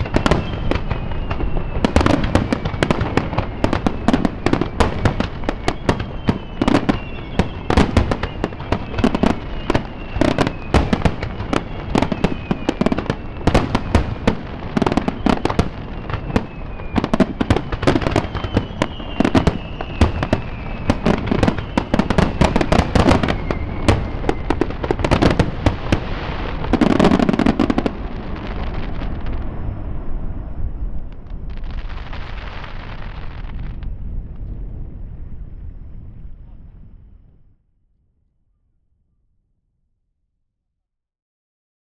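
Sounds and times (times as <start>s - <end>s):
falling firework whistles: 0.0s - 34.0s
fireworks bangs and crackle: 0.0s - 37.5s.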